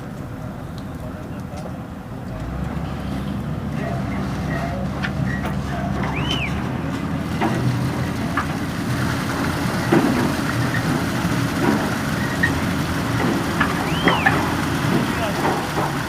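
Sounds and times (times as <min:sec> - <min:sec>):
machinery engine running: 0:02.4 - 0:16.0.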